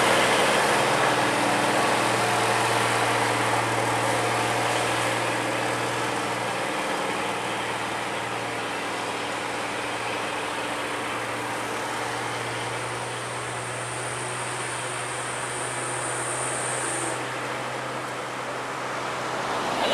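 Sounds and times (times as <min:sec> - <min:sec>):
truck diesel engines droning: 0:00.0 - 0:19.9.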